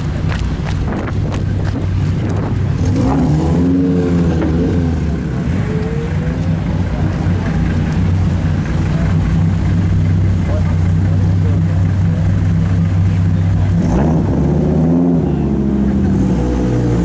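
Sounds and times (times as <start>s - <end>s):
car engine revving: 0.0s - 17.0s
sports car engines running: 0.0s - 17.0s.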